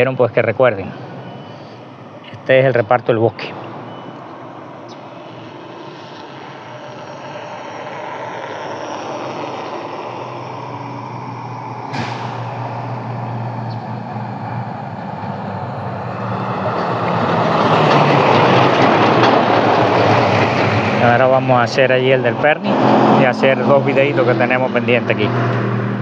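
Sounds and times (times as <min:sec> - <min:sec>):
diesel truck passing: 0:00.0 - 0:26.0.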